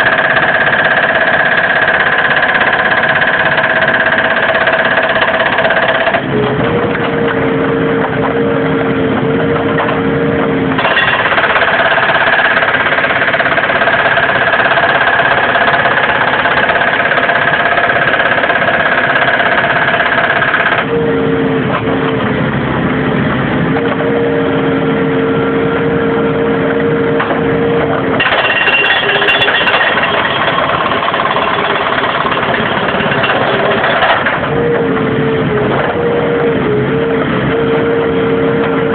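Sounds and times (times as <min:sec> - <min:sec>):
hydraulic breaker hammering concrete: 0:00.0 - 0:22.4, 0:27.0 - 0:38.9
diesel engine: 0:00.0 - 0:38.9.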